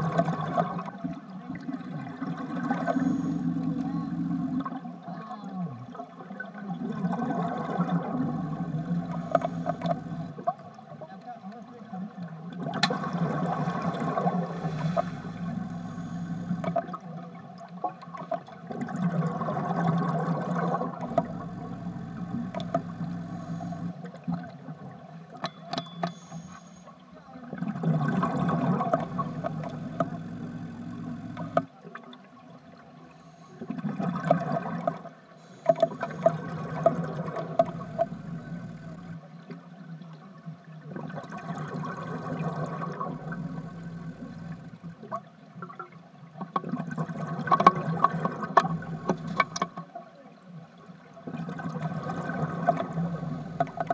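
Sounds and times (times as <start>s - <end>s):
underwater bubbling: 0.0s - 11.0s, 11.7s - 50.0s, 51.0s - 53.9s.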